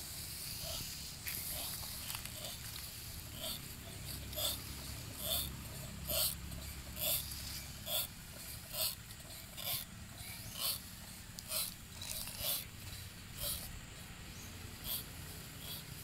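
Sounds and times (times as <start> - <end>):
sprayer pump hissing strokes: 0.0 - 16.0.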